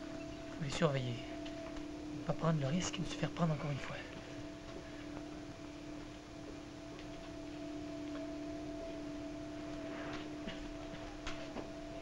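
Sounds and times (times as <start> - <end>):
electronic hum of held tones: 0.0 - 12.0.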